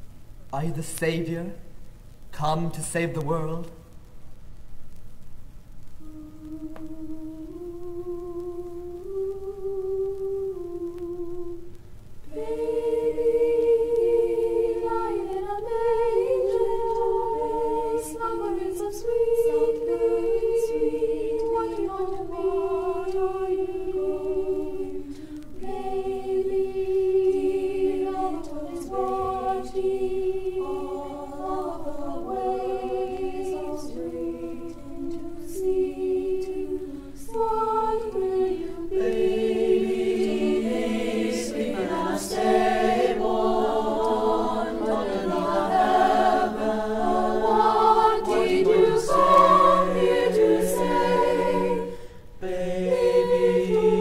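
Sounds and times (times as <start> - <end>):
mixed choir singing a cappella: 6.0 - 54.0.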